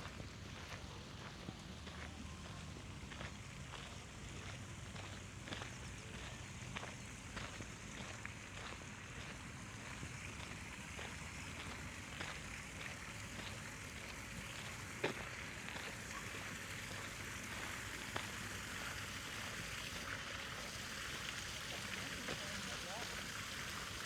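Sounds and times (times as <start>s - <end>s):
running water: 0.0s - 24.0s.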